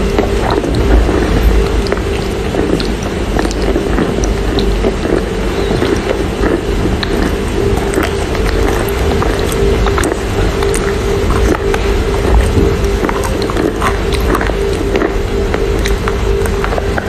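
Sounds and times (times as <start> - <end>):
chewing wet clay: 0.0 - 17.0
steady hum: 0.0 - 17.0.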